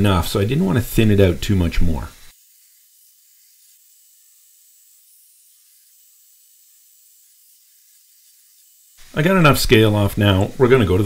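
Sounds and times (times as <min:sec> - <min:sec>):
faint high hiss: 0:00.0 - 0:11.0.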